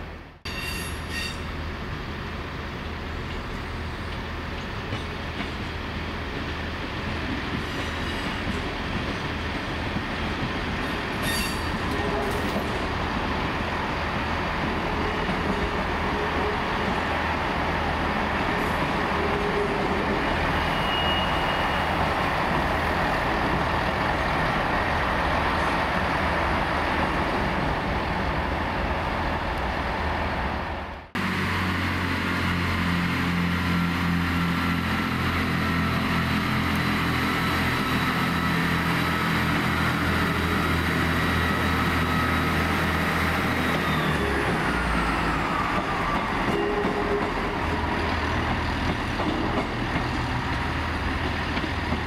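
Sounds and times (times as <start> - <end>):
train engines and wheels rumbling: 0.0 - 52.0.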